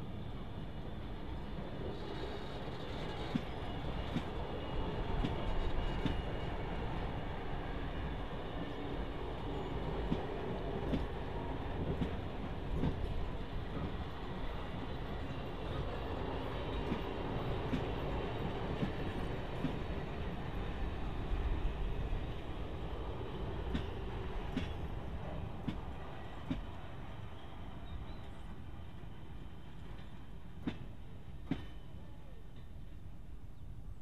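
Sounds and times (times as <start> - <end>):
train rumbling past: 0.0 - 33.1.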